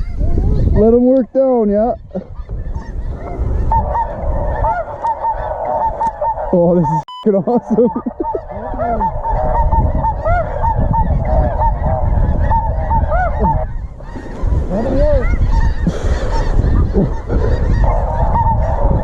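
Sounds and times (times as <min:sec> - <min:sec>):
wind rumble on microphone: 0:00.0 - 0:19.0
geese honking: 0:02.4 - 0:19.0.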